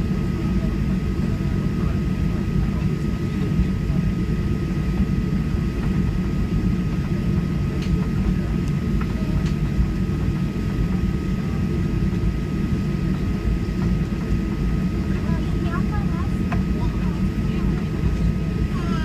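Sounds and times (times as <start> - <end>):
aircraft cabin engine rumble: 0.0 - 19.0.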